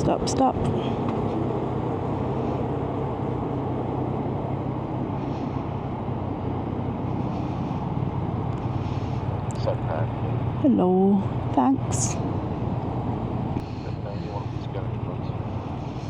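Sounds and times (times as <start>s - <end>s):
motorcycle engine low hum: 0.0s - 16.0s.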